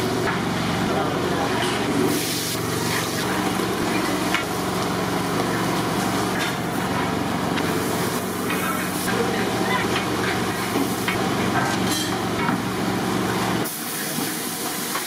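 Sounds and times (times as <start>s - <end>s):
gas burner roar: 0.0s - 15.0s
food sizzling in oil: 1.9s - 15.0s.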